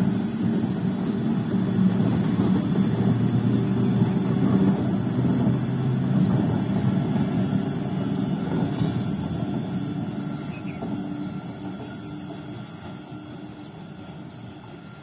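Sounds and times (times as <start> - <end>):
electric locomotive humming and rumbling: 0.0 - 15.0.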